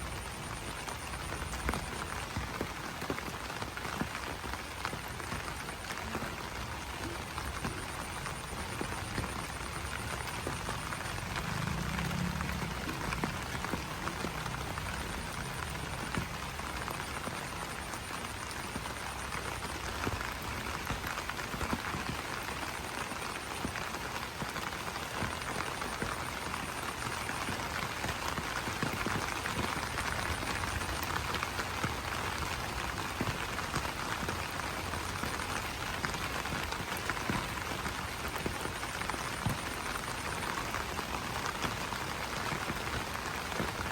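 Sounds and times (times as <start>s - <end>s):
rain pattering on leaves: 0.0s - 43.9s.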